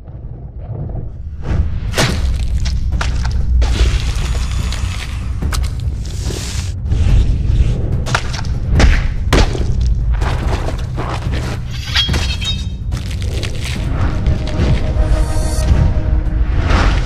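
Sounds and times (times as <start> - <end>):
deep low rumble: 0.0 - 11.5, 12.7 - 17.0.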